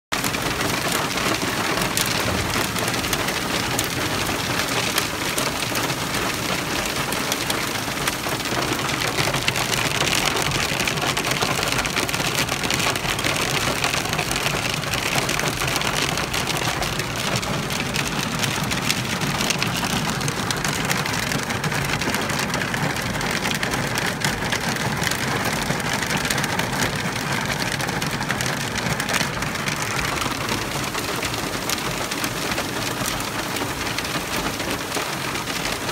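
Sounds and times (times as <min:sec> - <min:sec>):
hail and rain on a vehicle: 0:00.1 - 0:35.9.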